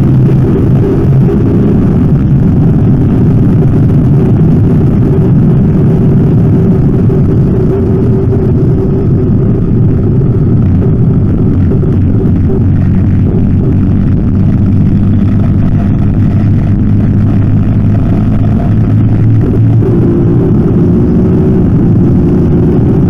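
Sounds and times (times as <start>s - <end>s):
motorcycle engine at high speed: 0.0s - 23.0s
wind rush on microphone: 0.0s - 23.0s.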